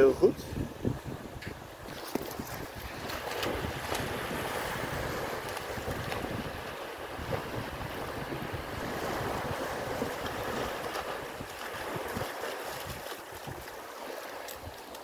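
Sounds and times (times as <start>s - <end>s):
wind buffeting microphone: 0.0s - 13.7s
small waves on sandy beach: 0.0s - 15.0s
dog splashing through surf: 2.6s - 15.0s.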